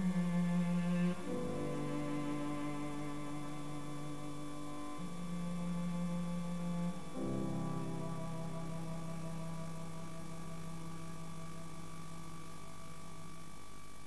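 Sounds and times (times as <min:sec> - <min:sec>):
slow music with low held notes: 0:00.0 - 0:14.0.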